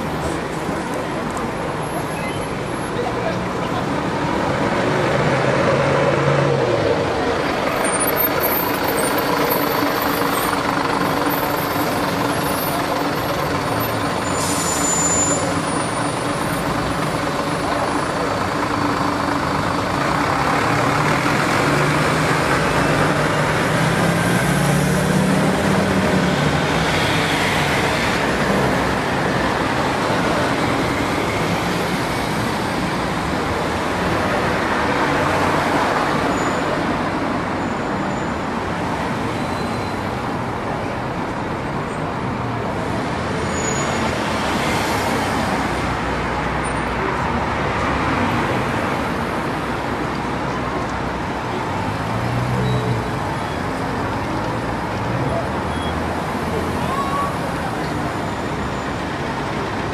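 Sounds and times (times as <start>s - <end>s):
heavy vehicles passing: 0.0s - 59.9s.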